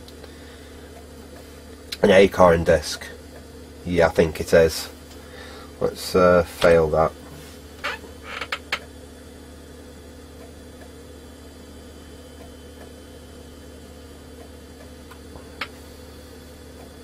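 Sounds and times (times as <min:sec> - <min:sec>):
desktop computer humming: 0:00.0 - 0:17.0.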